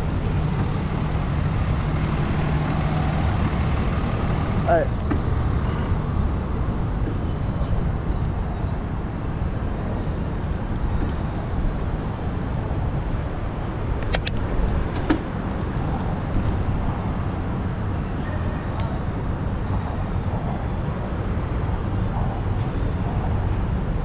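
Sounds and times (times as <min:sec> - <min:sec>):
city traffic: 0:00.0 - 0:24.0
wind rumble: 0:00.0 - 0:24.0.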